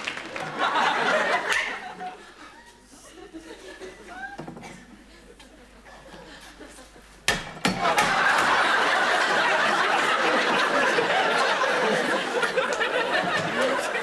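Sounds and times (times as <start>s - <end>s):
audience laughing: 0.3s - 4.4s, 5.0s - 7.2s, 7.8s - 14.0s.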